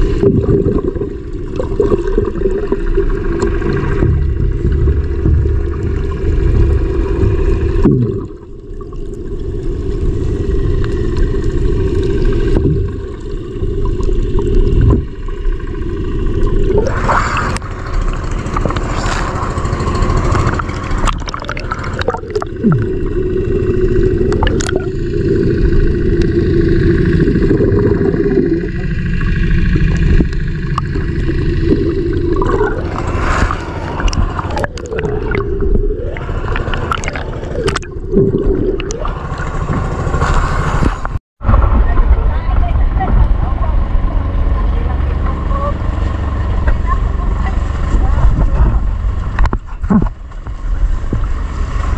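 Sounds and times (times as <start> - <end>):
gurgling bubbles: 0.0 - 41.2, 41.8 - 51.9
underwater churning water rumble: 0.0 - 51.9.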